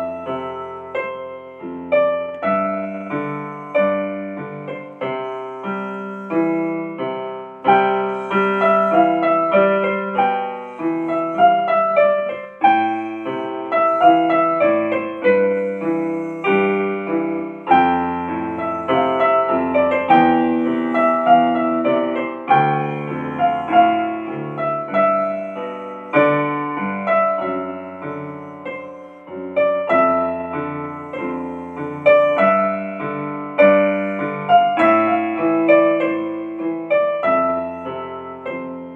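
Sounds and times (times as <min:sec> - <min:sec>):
gentle piano melody: 0:00.0 - 0:38.9.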